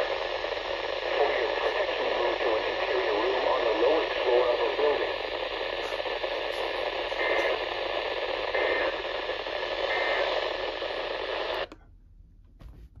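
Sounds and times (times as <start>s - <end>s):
radio static hiss: 0.0s - 11.7s.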